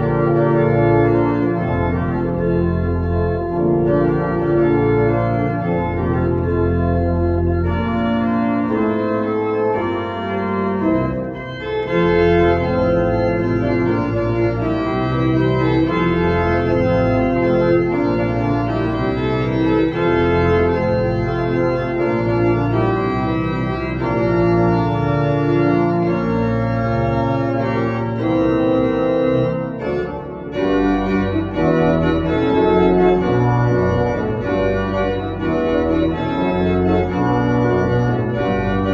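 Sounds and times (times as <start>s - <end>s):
pipe organ playing pop medley: 0.0s - 38.9s.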